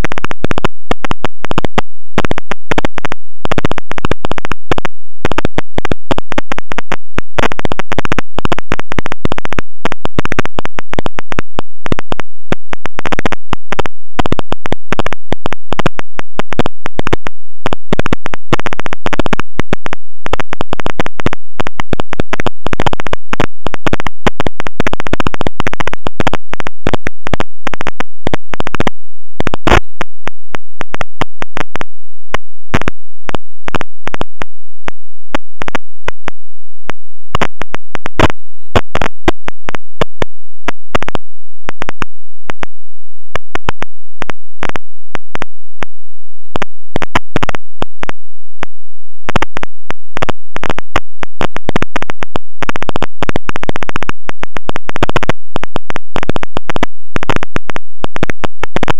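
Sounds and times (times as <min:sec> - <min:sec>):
harsh stuttering electronic buzzing: 0:00.0 - 0:58.9.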